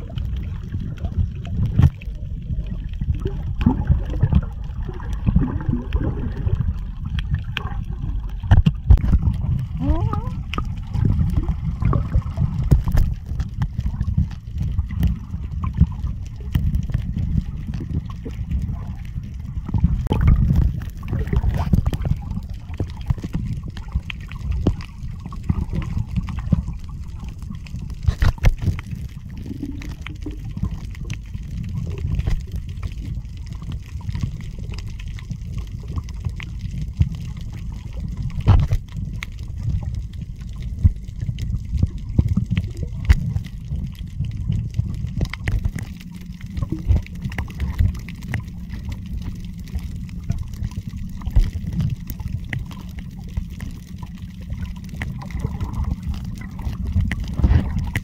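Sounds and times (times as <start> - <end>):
clicks and crackles: 0.0 - 58.0
muffled underwater rumble: 0.0 - 58.0.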